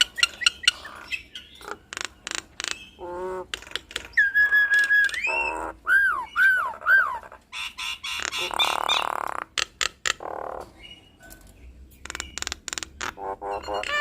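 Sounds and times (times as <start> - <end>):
starling singing: 0.0 - 9.6, 10.2 - 14.0.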